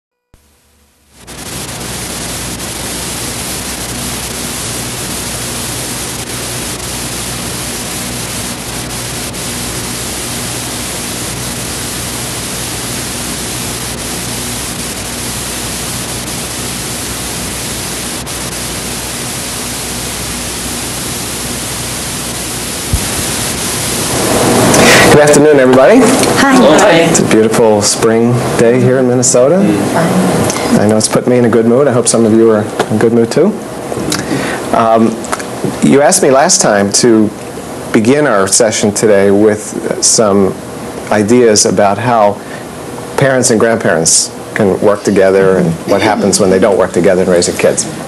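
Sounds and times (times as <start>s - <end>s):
tape hiss: 0.2s - 48.0s
faint mains hum: 0.4s - 48.0s.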